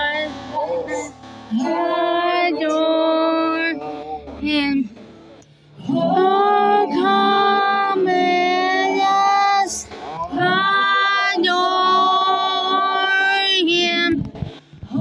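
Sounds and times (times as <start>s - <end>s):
high solo voice singing: 0.0s - 4.8s, 5.8s - 14.2s.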